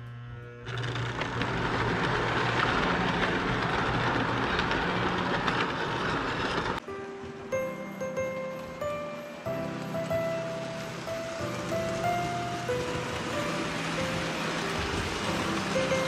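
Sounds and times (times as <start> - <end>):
model train rolling on metal track: 0.7 - 16.0.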